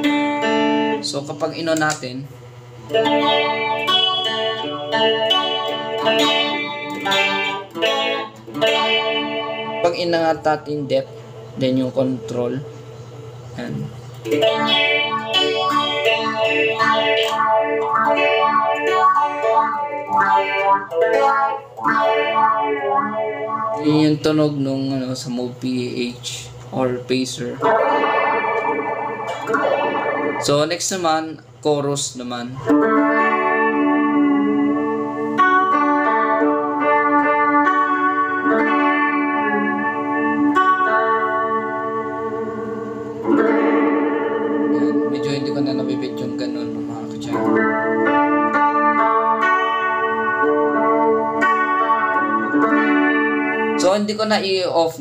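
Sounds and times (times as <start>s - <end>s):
electric guitar with phaser effect: 0.0s - 55.0s.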